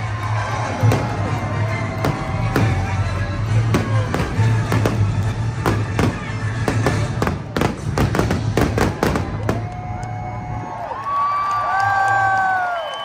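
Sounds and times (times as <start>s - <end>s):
fireworks bangs and crackles: 0.0s - 10.6s.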